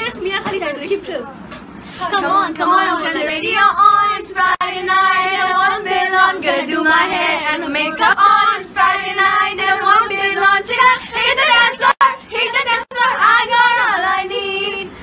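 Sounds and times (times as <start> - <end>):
women singing a cappella: 2.0 - 15.0.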